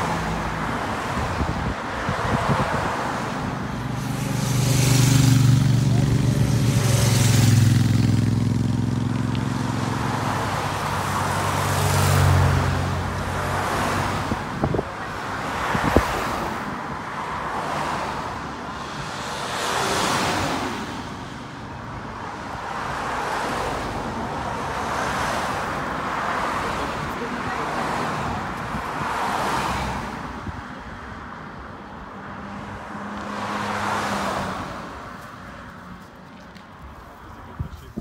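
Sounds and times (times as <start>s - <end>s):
cars passing: 0.0s - 38.0s.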